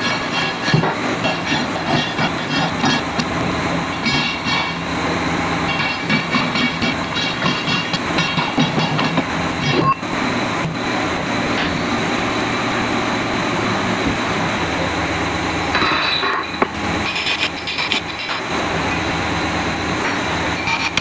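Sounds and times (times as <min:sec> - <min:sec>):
diesel machinery running: 0:00.0 - 0:21.0.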